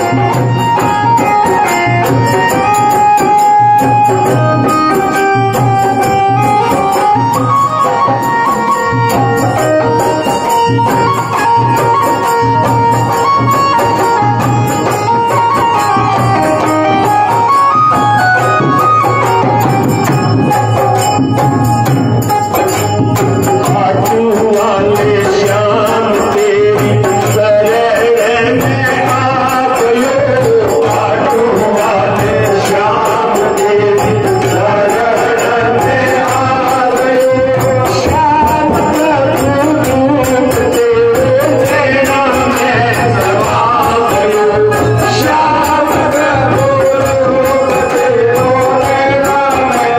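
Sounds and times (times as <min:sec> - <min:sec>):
person singing: 0:00.0 - 0:21.0, 0:23.1 - 0:49.9
hand percussion beat: 0:00.0 - 0:49.9
jingling metal percussion: 0:00.0 - 0:49.9.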